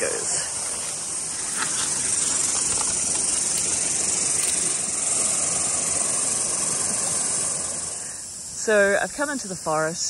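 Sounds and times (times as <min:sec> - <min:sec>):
leaves rustling as someone pushes through: 0:00.0 - 0:08.2
cicada chorus buzzing: 0:00.0 - 0:10.0.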